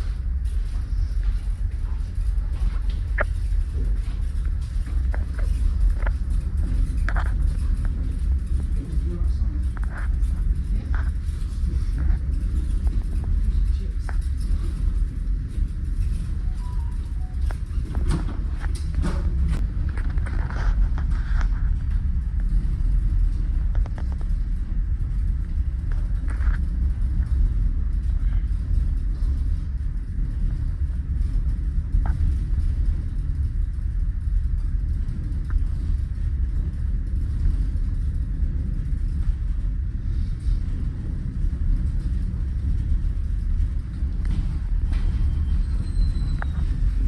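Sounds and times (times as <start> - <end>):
low rumble on board ferry: 0.0 - 47.0.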